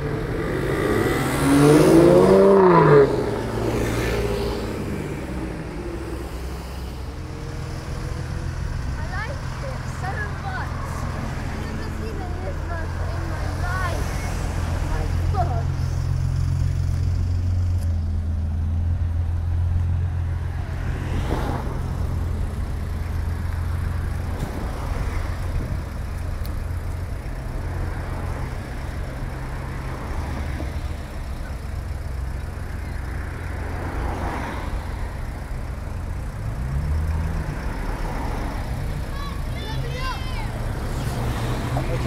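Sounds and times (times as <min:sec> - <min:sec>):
car engine idling: 0:00.0 - 0:42.0
passing traffic: 0:00.0 - 0:42.0.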